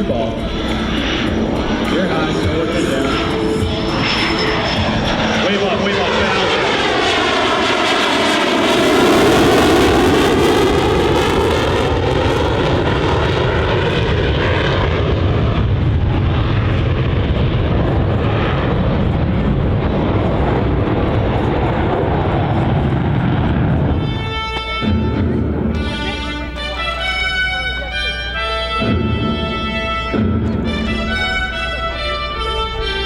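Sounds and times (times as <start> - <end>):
heavy jet rumble: 0.0 - 33.0
jet engine whine: 0.0 - 33.0.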